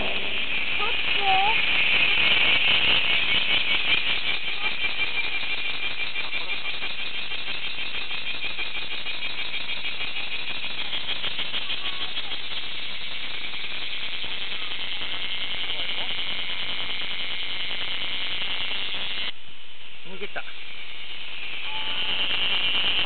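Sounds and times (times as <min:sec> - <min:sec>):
cicada buzzing: 0:00.0 - 0:19.4, 0:20.0 - 0:23.0.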